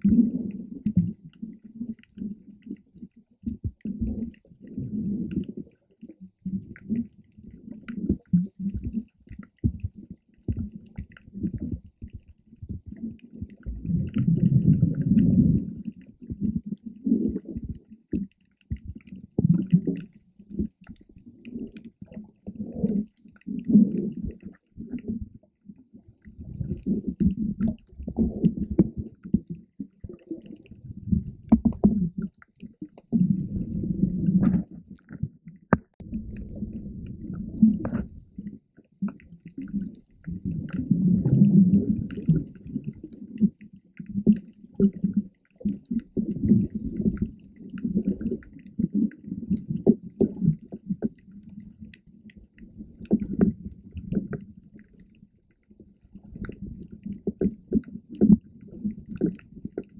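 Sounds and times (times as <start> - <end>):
muffled underwater sloshing: 0.0 - 59.9.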